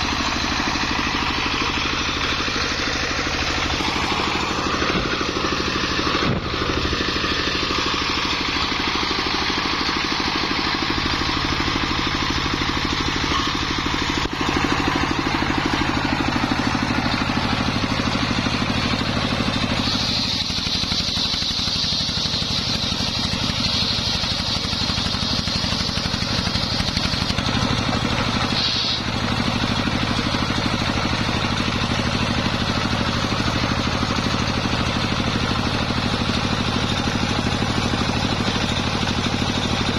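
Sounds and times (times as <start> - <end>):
circular saw motor drone: 0.0 - 36.0
saw blade whining through wood: 0.0 - 39.9.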